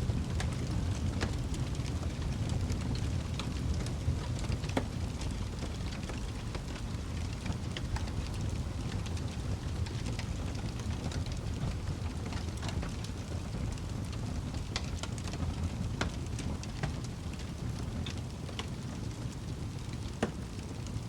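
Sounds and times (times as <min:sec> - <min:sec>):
logs crackling and popping: 0:00.0 - 0:21.0
wood fire rumbling: 0:00.0 - 0:21.0.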